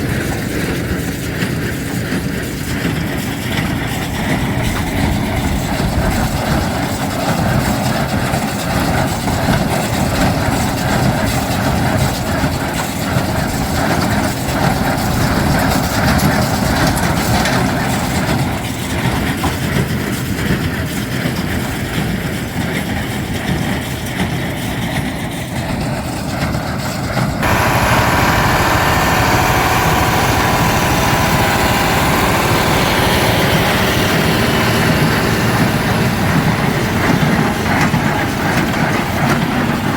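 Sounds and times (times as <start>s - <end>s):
square baler working: 0.0s - 21.7s, 25.8s - 39.9s
diesel tractor running: 0.0s - 39.9s.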